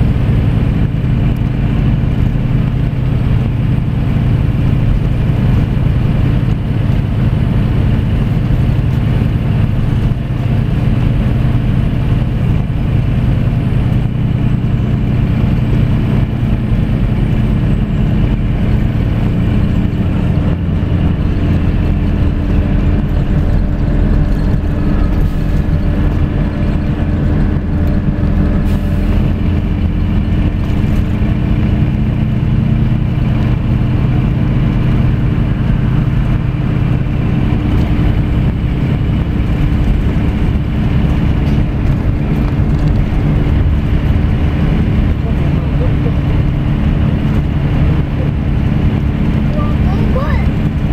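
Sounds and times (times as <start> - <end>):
bus engine and tyre drone: 0.0 - 50.9.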